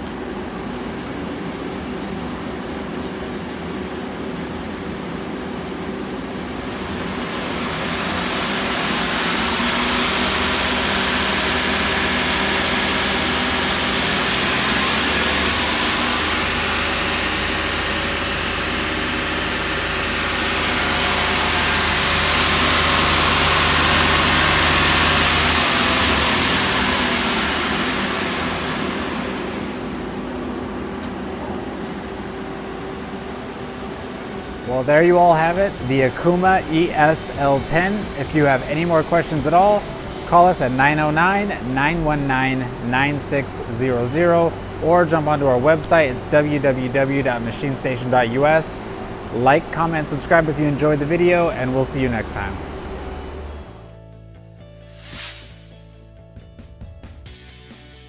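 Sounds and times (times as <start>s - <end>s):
lathe machine whirring: 0.0s - 53.9s.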